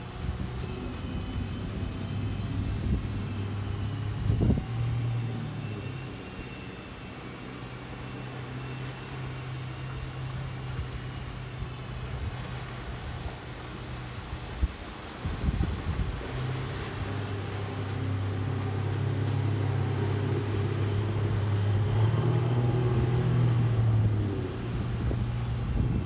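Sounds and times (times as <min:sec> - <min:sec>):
faint high whine: 0:00.0 - 0:26.0
motorboat engine drone: 0:00.0 - 0:26.0.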